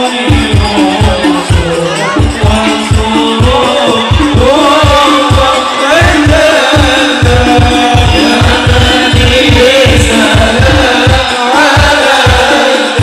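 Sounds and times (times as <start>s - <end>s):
heavy drum beat: 0.0s - 13.0s
men singing through loudspeakers: 0.0s - 13.0s.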